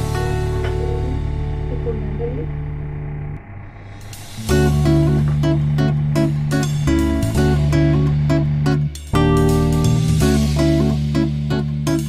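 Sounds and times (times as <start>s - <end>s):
sustained music chord: 0.0s - 12.0s.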